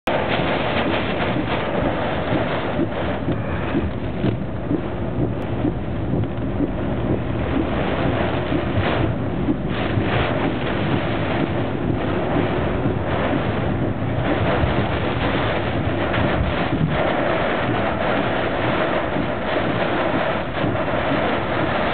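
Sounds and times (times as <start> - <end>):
road noise: 0.0 - 21.9
wind and driving rain on car: 0.0 - 21.9.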